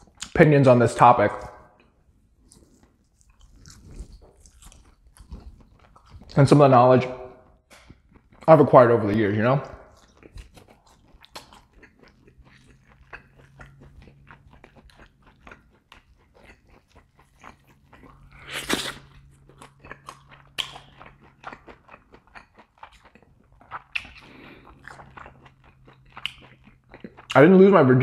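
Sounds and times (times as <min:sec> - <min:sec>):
wet chewing clicks and smacks: 0:01.3 - 0:06.5, 0:07.4 - 0:08.6, 0:09.6 - 0:27.6.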